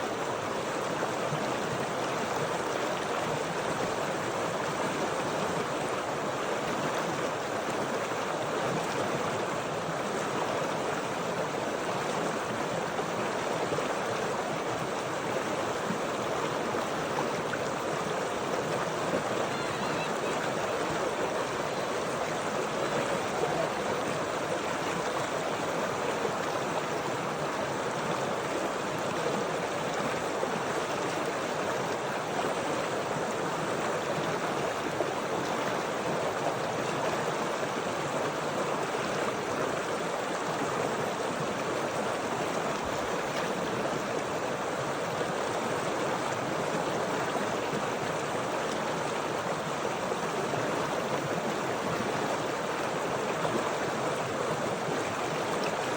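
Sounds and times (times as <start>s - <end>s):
water flowing: 0.0s - 55.9s.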